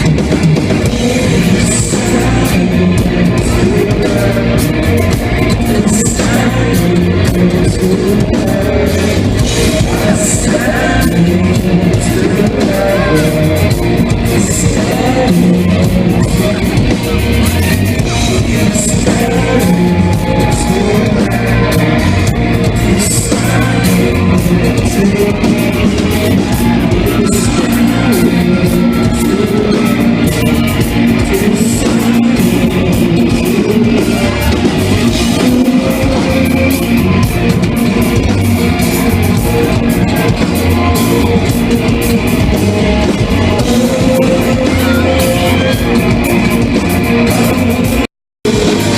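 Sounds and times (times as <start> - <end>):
bass: 0.0 - 48.9
distorted electric guitars: 0.0 - 48.9
drums with cymbal crashes: 0.0 - 48.9
person singing: 0.0 - 48.9.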